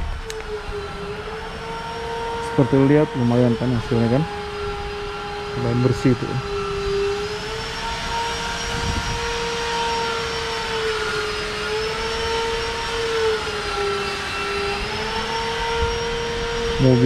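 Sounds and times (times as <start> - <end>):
machine whine: 0.0 - 17.0.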